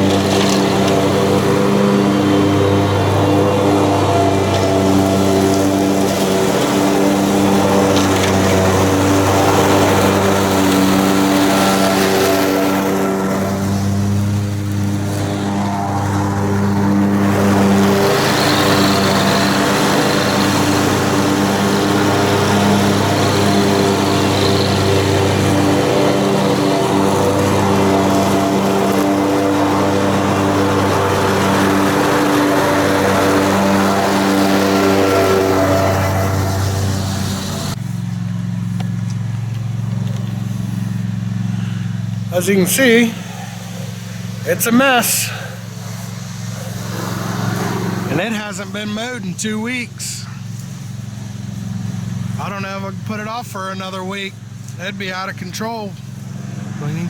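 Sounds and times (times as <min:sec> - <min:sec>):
ride-on lawn mower engine: 0:00.0 - 0:57.0.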